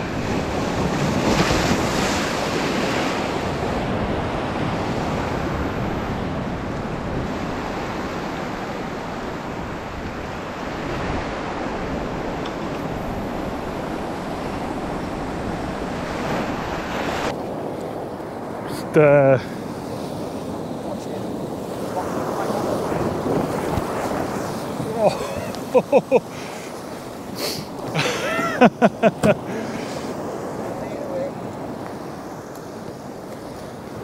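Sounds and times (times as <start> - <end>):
sea surf washing over rocks: 0.0 - 34.0
wind buffeting microphone: 0.0 - 34.0.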